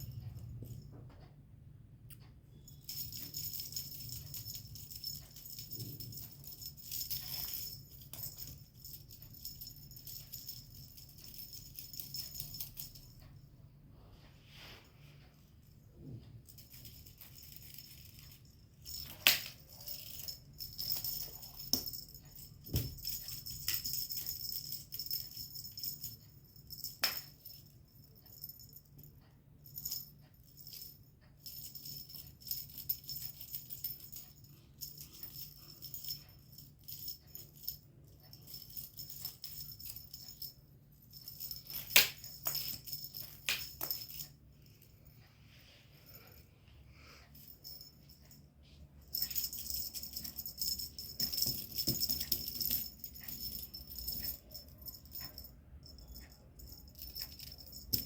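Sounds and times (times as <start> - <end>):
high-pitched jingling and rattling: 2.6 - 13.3, 16.4 - 45.2, 47.3 - 58.0.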